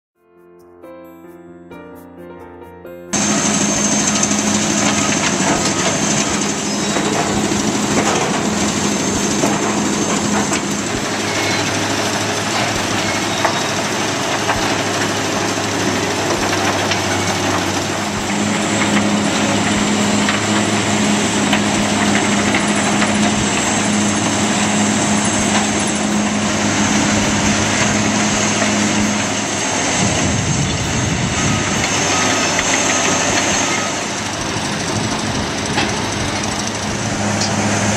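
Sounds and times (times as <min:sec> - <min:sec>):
diesel engine drone: 0:03.1 - 0:37.9
debris rattling and clattering: 0:03.2 - 0:37.9.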